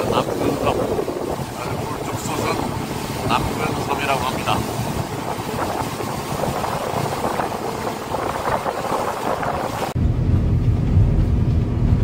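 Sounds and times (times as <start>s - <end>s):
boat engine drone: 0.0s - 12.0s
wake churning: 0.0s - 12.0s
wind and water rushing: 0.0s - 12.0s.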